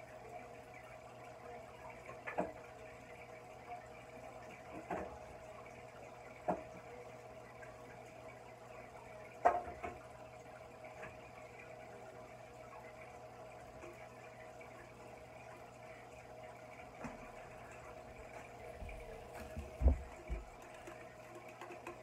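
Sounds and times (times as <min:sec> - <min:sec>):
aquarium filter trickling water: 0:00.0 - 0:22.0.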